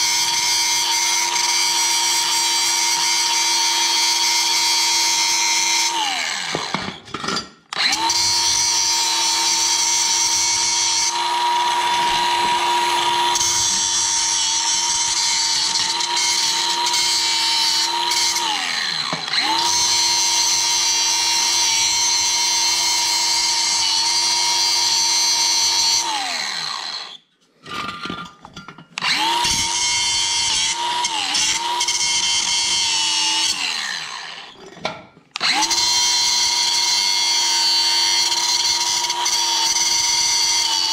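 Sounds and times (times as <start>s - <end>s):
angle grinder grinding metal: 0.0s - 28.2s, 29.0s - 40.9s.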